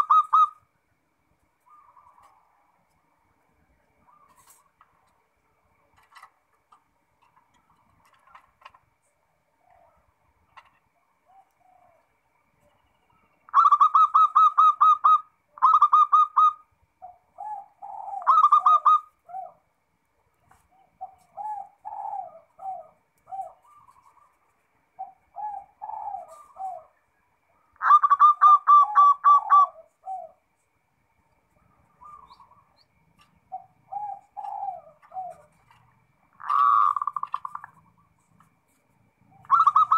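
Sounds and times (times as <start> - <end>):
doves cooing: 0.0 - 0.7, 1.6 - 2.8, 3.9 - 19.8, 20.4 - 30.6, 31.5 - 39.9.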